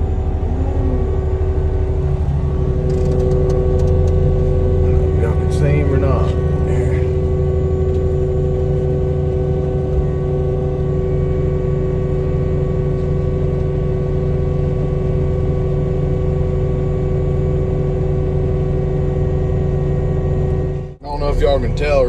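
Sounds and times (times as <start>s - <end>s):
diesel engine drone: 0.0s - 22.0s
hydraulic whine: 0.0s - 22.0s.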